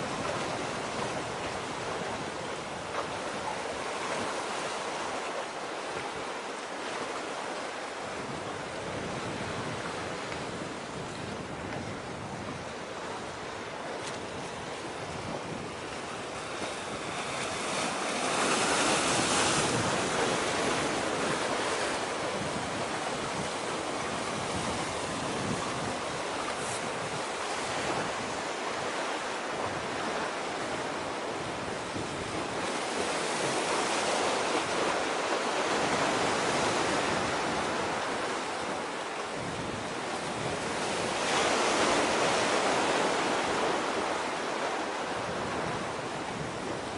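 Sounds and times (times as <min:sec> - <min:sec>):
wind on microphone: 0:00.0 - 0:05.2, 0:05.8 - 0:46.9
sea waves washing in: 0:00.0 - 0:46.9.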